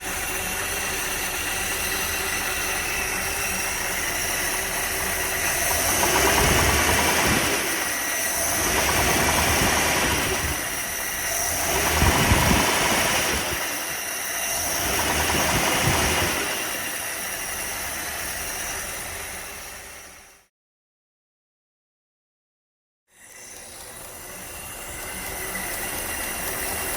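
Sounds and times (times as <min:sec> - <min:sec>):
engine knock: 0:00.0 - 0:20.4, 0:23.4 - 0:26.9
car engine idling and revving: 0:00.0 - 0:20.5, 0:23.4 - 0:26.9.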